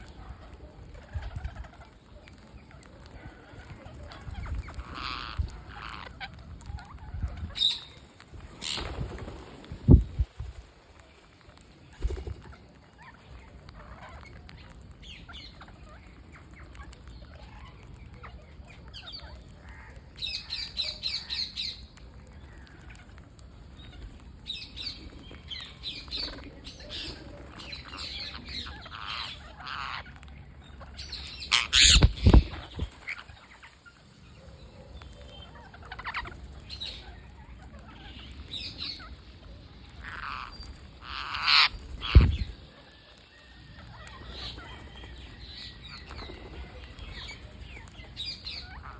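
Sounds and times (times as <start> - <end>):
parrots squawking and chattering: 0.0 - 9.5, 11.5 - 48.9.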